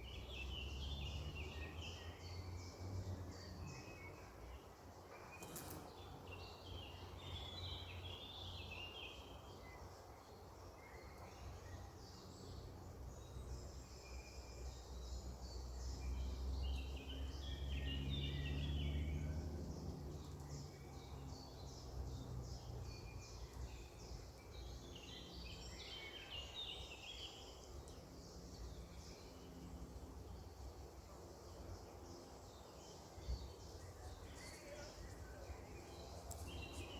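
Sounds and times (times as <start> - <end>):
songbirds singing and chirping: 0.0 - 36.9.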